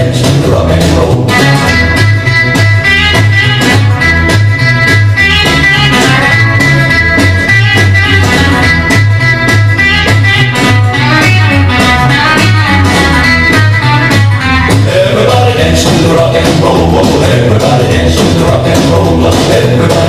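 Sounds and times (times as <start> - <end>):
driving bass line: 0.0 - 20.0
lead guitar: 0.0 - 20.0
steady drum beat: 0.0 - 20.0.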